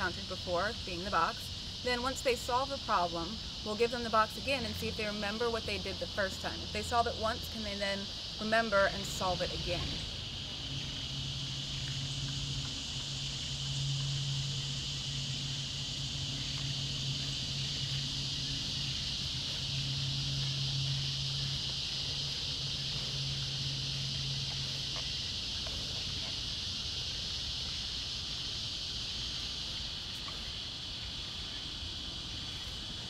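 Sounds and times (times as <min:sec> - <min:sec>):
insects shrilling: 0:00.0 - 0:33.0
low steady hum: 0:00.0 - 0:33.0.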